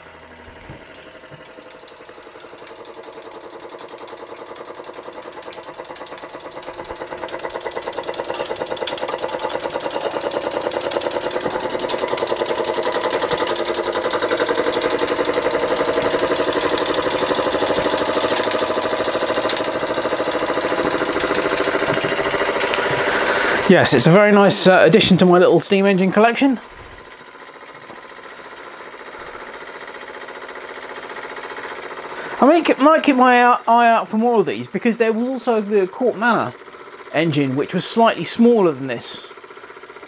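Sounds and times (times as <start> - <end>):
model steam engine chuffing: 0.0 - 40.0.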